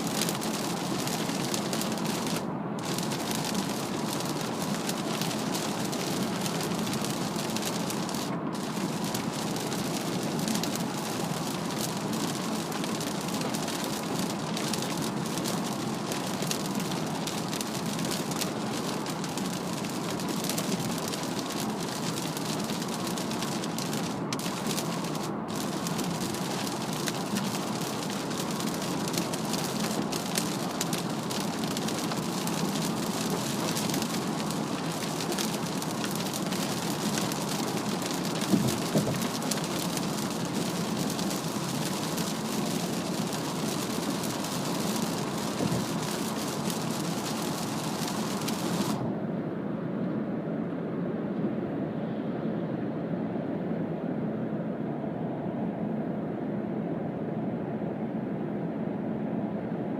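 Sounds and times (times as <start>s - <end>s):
heavy rain on car windshield: 0.0s - 49.0s
tyre and road noise: 0.0s - 49.1s.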